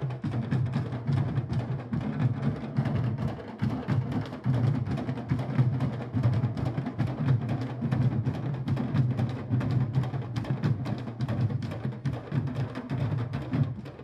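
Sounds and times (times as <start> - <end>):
drum ensemble playing fast rhythm: 0.0 - 14.0.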